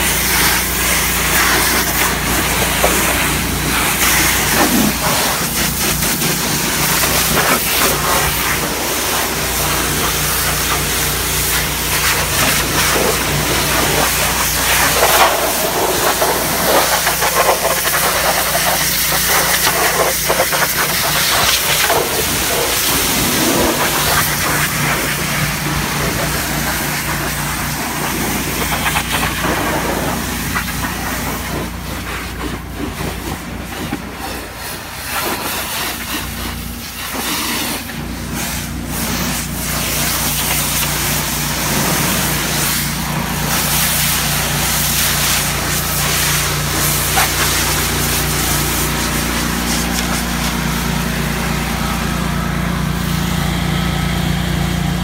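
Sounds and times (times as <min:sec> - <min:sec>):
water spray hiss: 0:00.0 - 0:51.1
pressure washer engine hum: 0:00.0 - 0:55.0.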